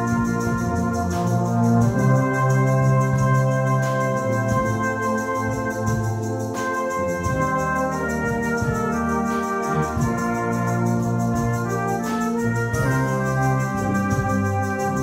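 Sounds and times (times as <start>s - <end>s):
brass band playing held chords: 0.0s - 15.0s.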